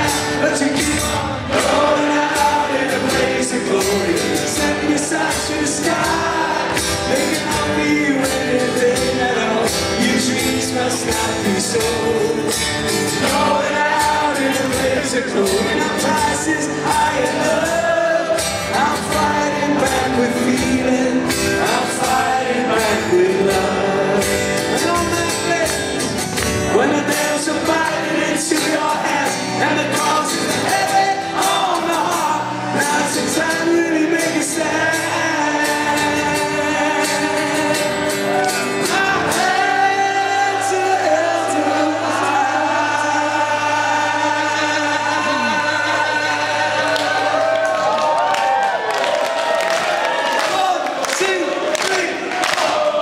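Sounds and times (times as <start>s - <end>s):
strummed acoustic guitar: 0.0s - 48.0s
person singing: 0.0s - 48.4s.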